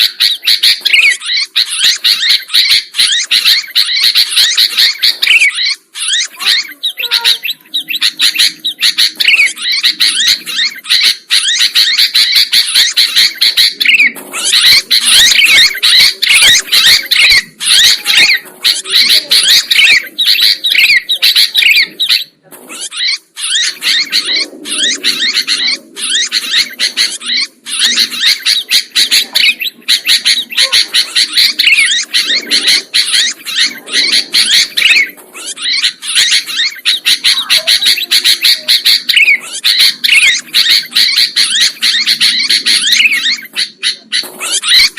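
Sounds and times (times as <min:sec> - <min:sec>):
bird chirping and chattering: 0:00.0 - 0:44.9.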